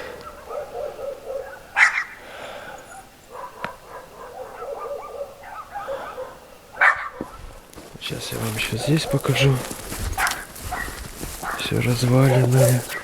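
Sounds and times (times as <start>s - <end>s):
dog barking and yapping: 0.0s - 2.2s, 2.9s - 7.5s, 8.6s - 13.0s.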